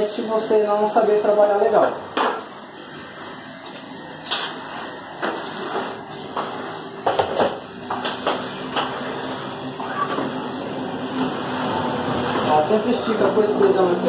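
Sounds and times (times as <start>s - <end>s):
electric dog clipper running: 0.0s - 14.0s.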